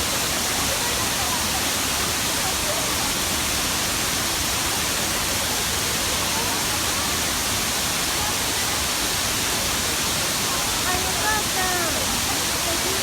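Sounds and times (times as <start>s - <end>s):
waterfall rushing and splashing: 0.0s - 13.0s.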